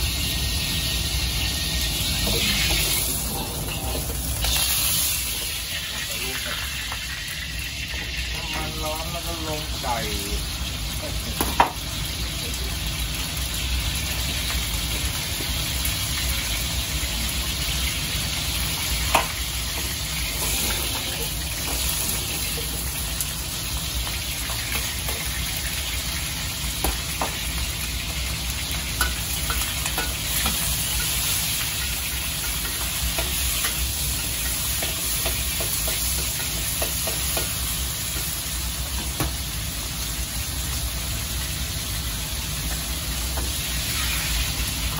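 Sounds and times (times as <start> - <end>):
meat sizzling in wok: 0.0 - 44.9.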